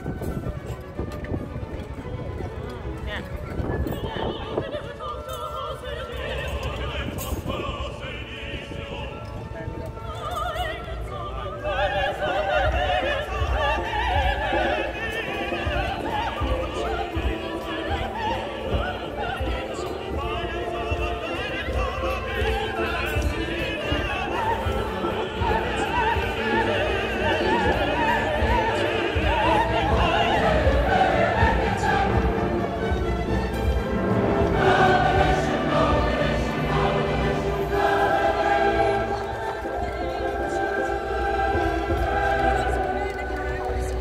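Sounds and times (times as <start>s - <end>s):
person singing operatically: 3.8s - 44.0s.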